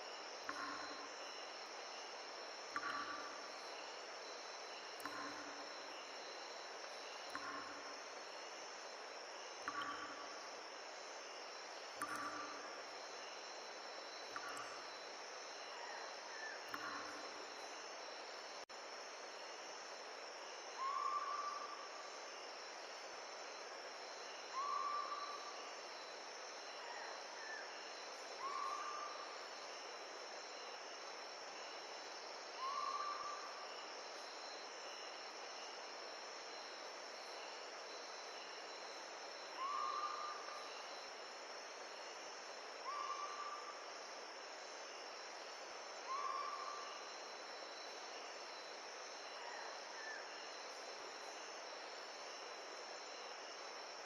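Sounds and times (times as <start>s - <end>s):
crickets trilling: 0.0s - 54.0s
short insect call: 0.0s - 54.0s.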